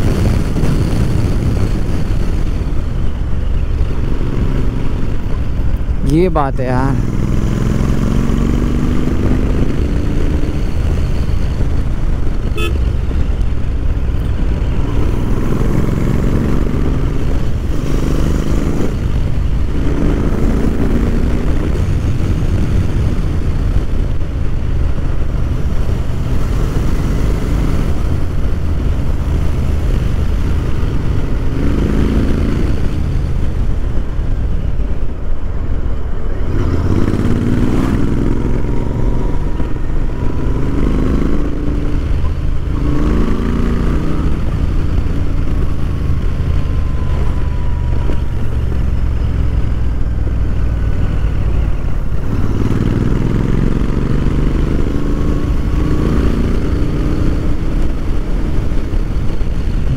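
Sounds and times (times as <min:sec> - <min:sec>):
motorcycle engine accelerating: 0:00.0 - 0:06.0, 0:06.7 - 0:34.6, 0:35.7 - 0:59.9
wind and road noise: 0:00.0 - 0:59.9.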